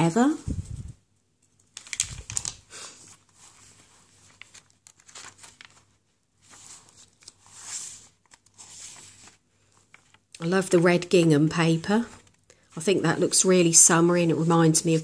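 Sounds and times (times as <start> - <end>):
paper pages rustling: 0.5 - 13.7.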